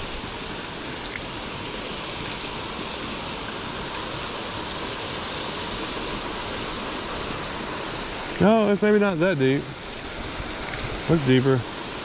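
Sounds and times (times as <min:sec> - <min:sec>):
water pouring over rocks: 0:00.0 - 0:12.0.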